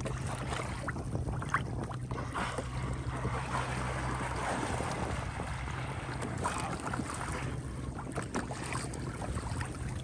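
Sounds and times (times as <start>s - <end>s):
steady low hum: 0.0s - 10.0s
water lapping and splashing: 0.0s - 10.0s
wind on microphone: 0.0s - 10.0s.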